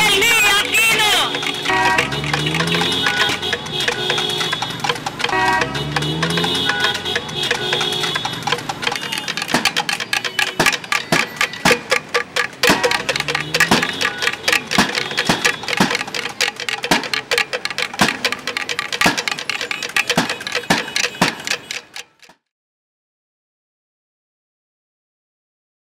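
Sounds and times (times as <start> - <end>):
drum: 0.0 - 22.3
bamboo tubes clacking: 0.0 - 22.4.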